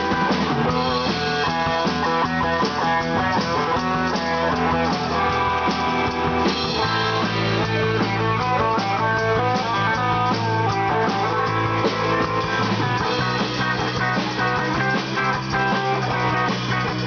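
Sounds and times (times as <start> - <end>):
drum kit: 0.0 - 17.0
electric bass: 0.0 - 17.0
electric guitar: 0.0 - 17.0.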